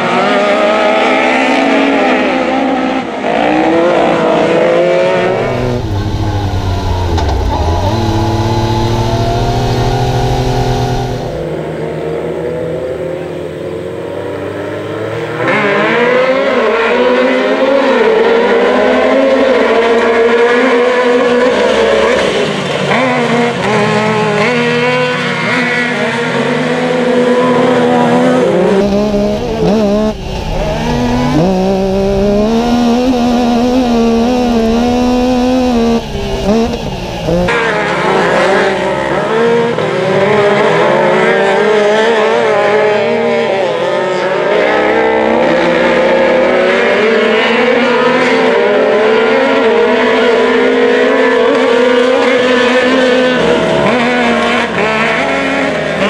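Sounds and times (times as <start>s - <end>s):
off-road vehicle engines revving: 0.0s - 56.0s.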